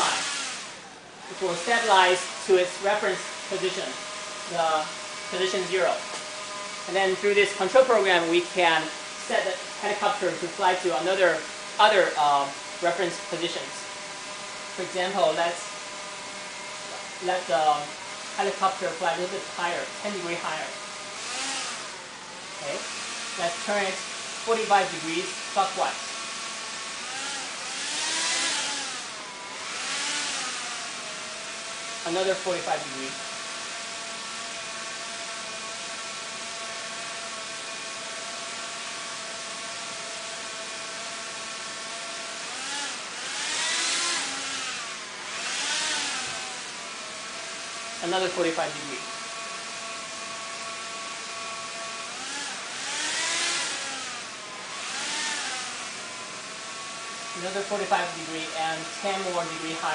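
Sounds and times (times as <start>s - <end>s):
propeller motors whirring: 0.0s - 59.9s.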